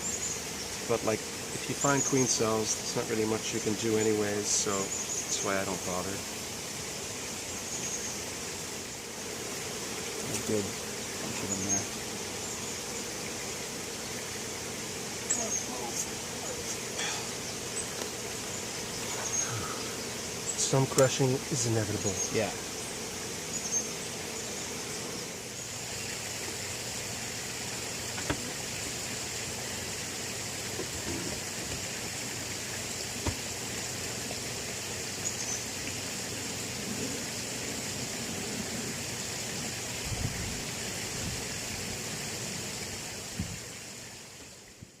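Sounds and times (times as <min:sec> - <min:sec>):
cicadas droning: 0:00.0 - 0:45.0.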